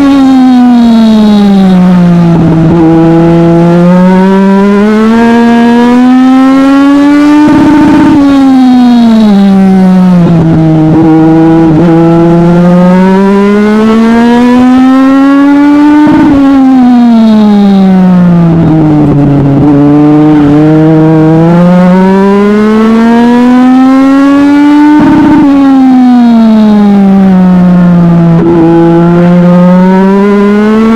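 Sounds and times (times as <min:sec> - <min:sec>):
race car engine accelerating: 0:00.0 - 0:30.9.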